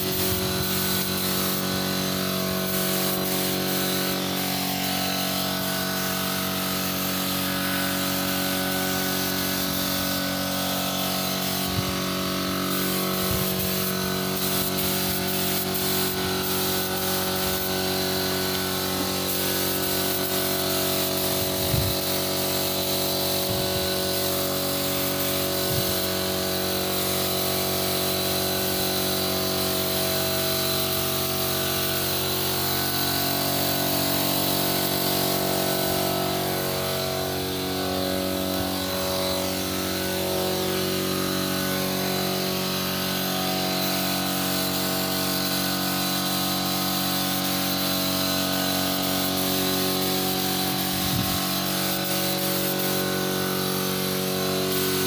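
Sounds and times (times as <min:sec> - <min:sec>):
air compressor motor running: 0:00.0 - 0:55.0
spray gun hissing: 0:00.0 - 0:55.0.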